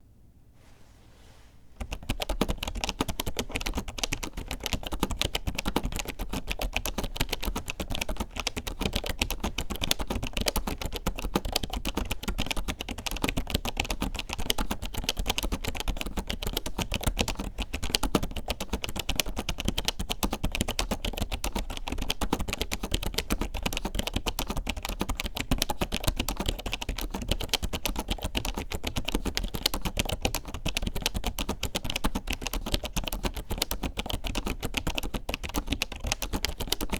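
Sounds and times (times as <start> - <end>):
fast typing on keyboard: 1.8 - 36.9.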